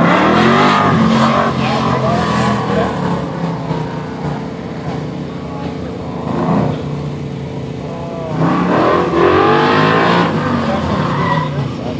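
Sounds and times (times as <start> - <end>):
race car engine revving: 0.0 - 11.9.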